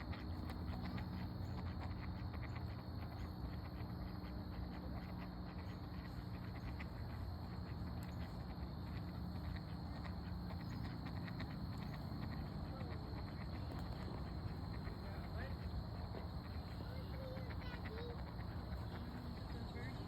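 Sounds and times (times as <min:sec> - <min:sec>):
high insect drone: 0:00.0 - 0:20.0
steady low rumble: 0:00.0 - 0:20.0.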